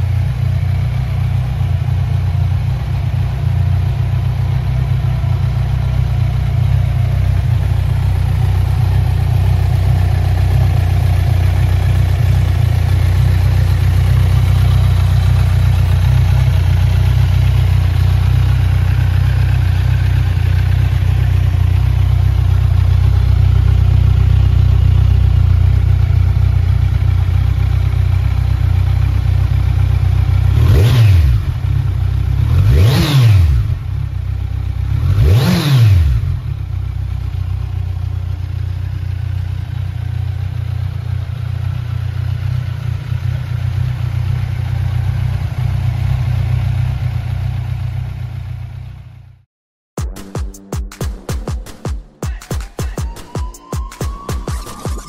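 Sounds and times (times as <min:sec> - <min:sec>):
motorcycle engine idling: 0:00.0 - 0:49.4.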